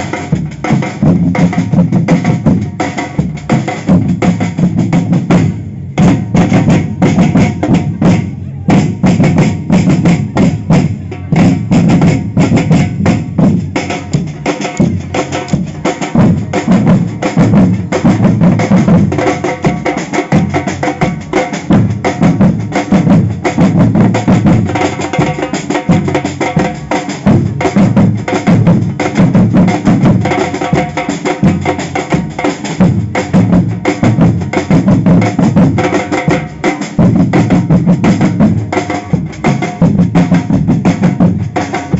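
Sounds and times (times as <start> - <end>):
deep bass drums: 0.0 - 41.9
samba percussion band drumming: 0.0 - 41.9.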